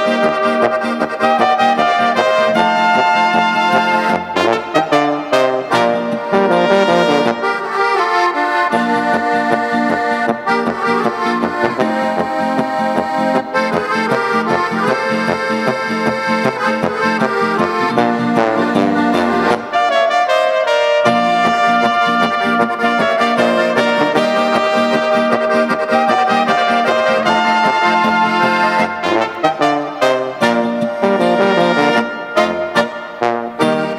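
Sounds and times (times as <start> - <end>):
accordion: 0.0 - 33.9
brass band playing: 0.0 - 33.9.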